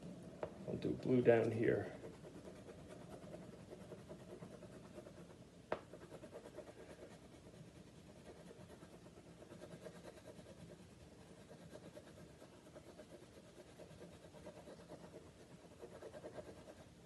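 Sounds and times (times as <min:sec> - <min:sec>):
crayon rubbing on paper: 0:01.3 - 0:16.9.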